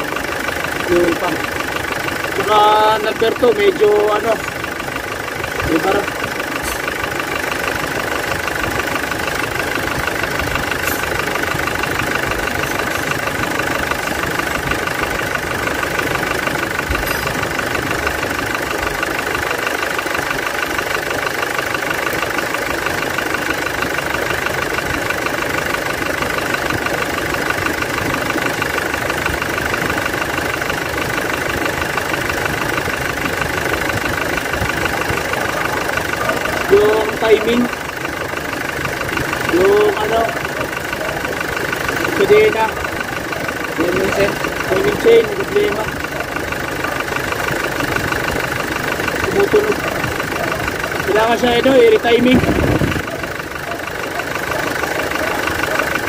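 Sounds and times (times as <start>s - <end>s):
diesel engine idling with clatter: 0.0s - 56.0s.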